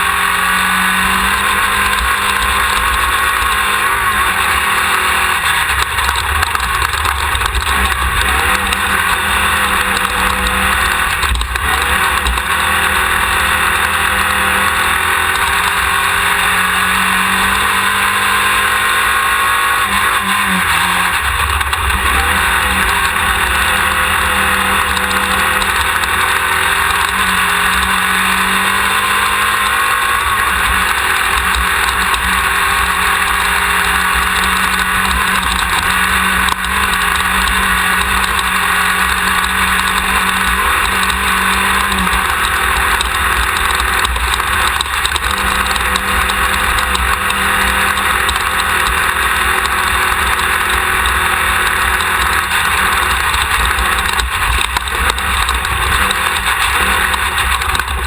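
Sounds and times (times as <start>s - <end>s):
race car engine running: 0.0s - 58.0s
wind and road noise: 0.0s - 58.0s.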